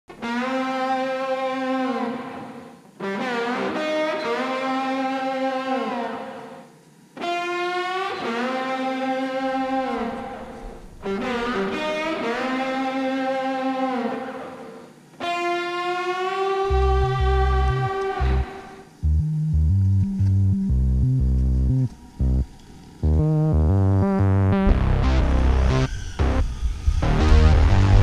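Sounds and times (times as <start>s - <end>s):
distorted electric guitar: 0.1s - 28.0s.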